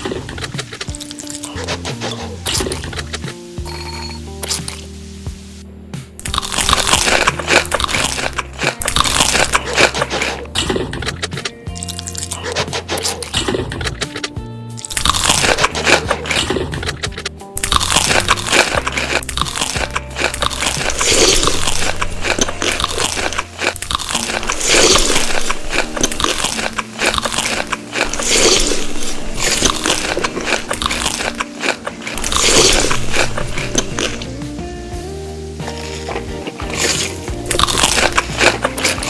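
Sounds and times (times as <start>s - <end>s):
crunching and chewing crisp food: 0.0s - 4.9s, 6.2s - 34.3s, 35.7s - 39.0s
background music: 0.0s - 39.0s.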